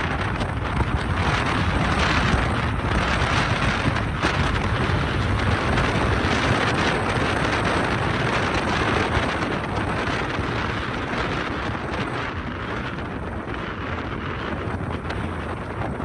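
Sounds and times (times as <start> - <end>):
tyre rumble on road: 0.0 - 16.0
wind rush: 0.0 - 16.0.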